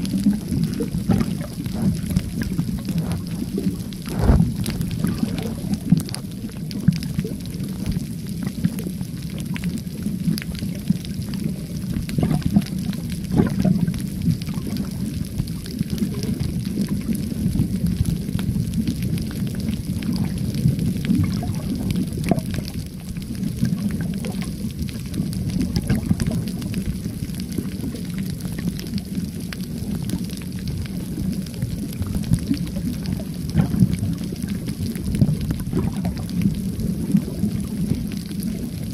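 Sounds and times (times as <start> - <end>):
faint underwater clicks: 0.0 - 38.9
low rumble of moving water: 0.0 - 38.9.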